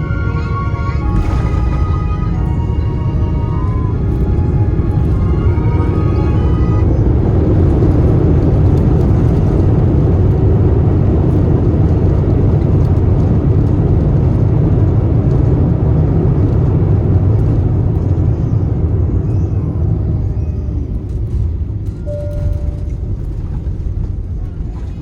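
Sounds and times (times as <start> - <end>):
airplane cabin engine roar: 0.0 - 25.0.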